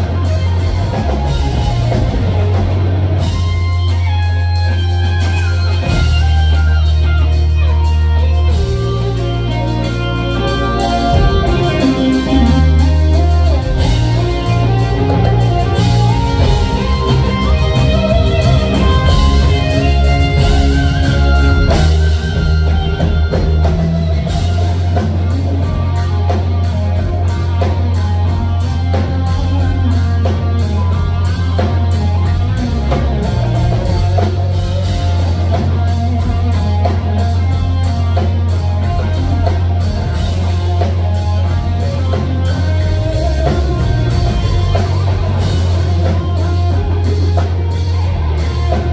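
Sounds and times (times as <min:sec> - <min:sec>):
drum kit cymbals beat: 0:00.0 - 0:48.9
electric guitar lead lines: 0:00.0 - 0:48.9
heavy bass guitar: 0:00.0 - 0:48.9.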